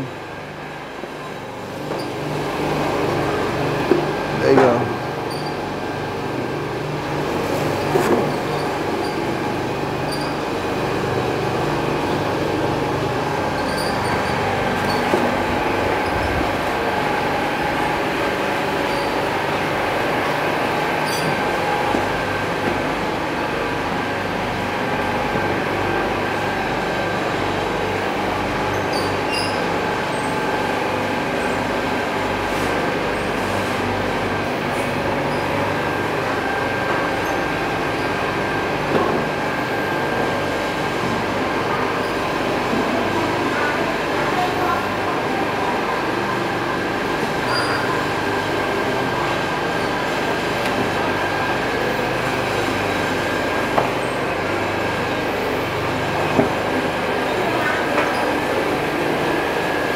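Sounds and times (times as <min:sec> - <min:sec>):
factory machinery drone: 0:00.0 - 0:59.9.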